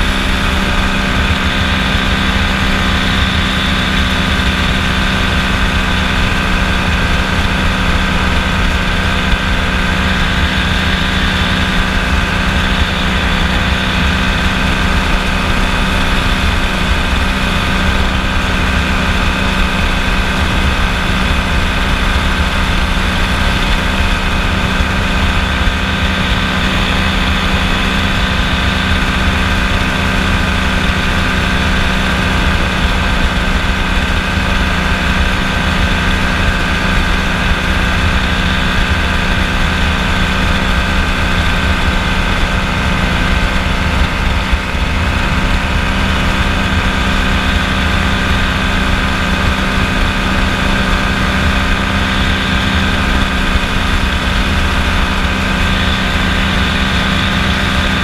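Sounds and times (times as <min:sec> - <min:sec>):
aircraft engine and propeller: 0:00.0 - 0:58.0.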